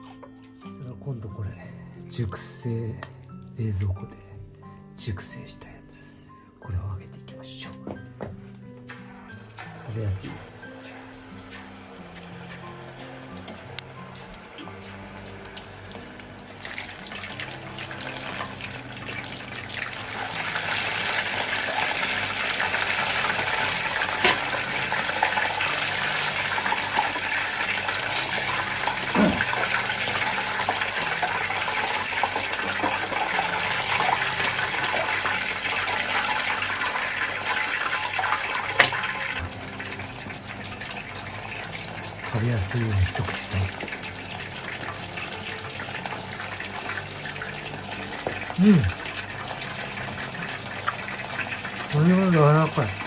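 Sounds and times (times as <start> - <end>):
meat deep-frying in hot oil: 8.8 - 53.0.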